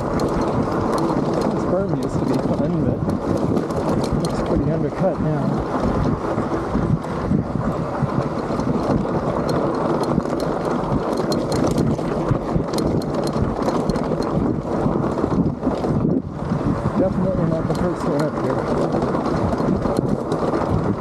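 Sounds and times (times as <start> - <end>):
bike tyres rolling on gravel: 0.0 - 21.0
clicks and rattles of bike: 0.0 - 21.0
wind buffeting microphone: 0.0 - 21.0.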